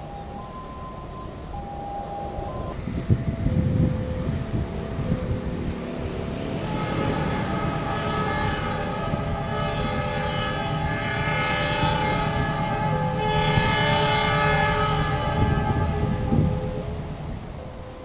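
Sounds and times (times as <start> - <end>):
low rumble of train: 0.0 - 18.0
train horn blast: 1.6 - 17.2.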